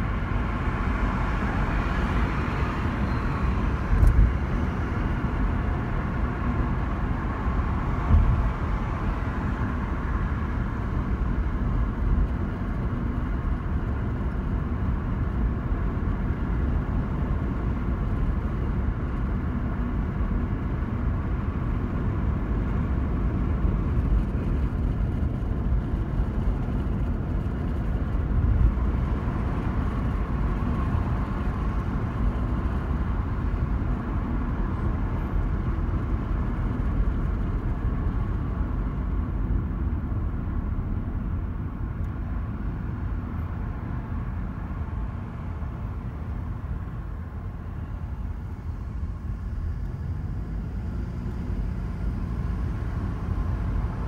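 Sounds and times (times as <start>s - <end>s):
car driving heard from inside: 0.0s - 54.0s.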